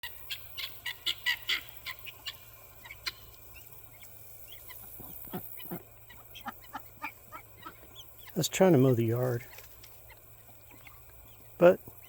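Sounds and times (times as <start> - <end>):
guinea fowl calling: 0.0 - 12.0.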